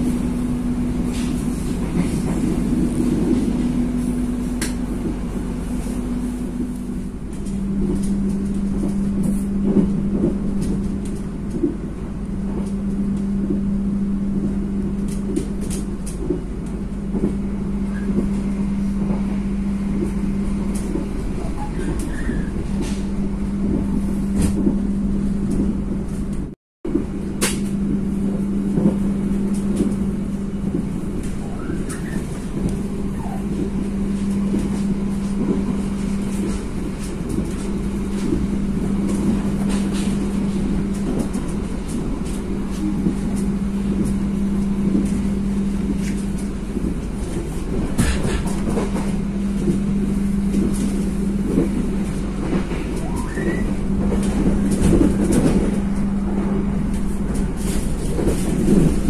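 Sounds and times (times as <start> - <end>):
passenger train rumbling: 0.0 - 59.0.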